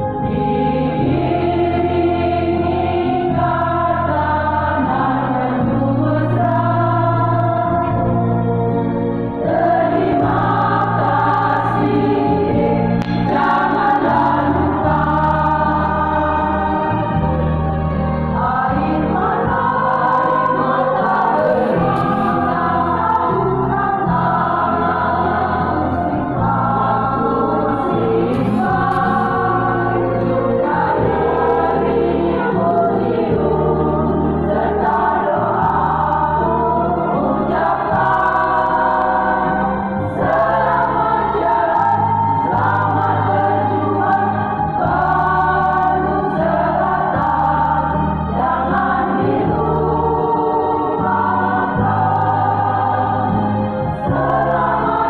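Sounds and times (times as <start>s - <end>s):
women's choir singing: 0.0s - 55.0s.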